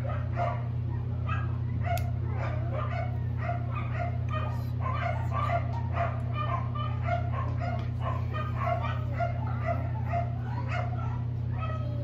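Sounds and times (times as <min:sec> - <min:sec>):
steady low hum: 0:00.0 - 0:12.0
puppies whimpering: 0:00.1 - 0:12.0.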